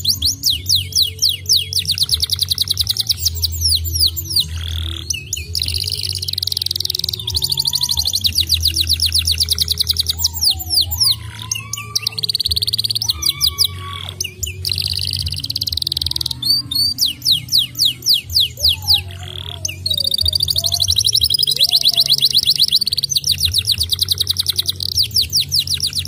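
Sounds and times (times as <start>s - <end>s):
canary singing trilled song: 0.0s - 26.0s.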